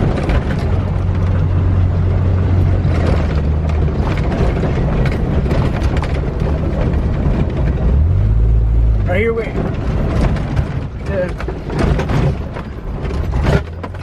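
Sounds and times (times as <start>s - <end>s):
knocks and rattles: 0.0s - 8.0s, 9.2s - 14.0s
car engine running: 0.0s - 14.0s.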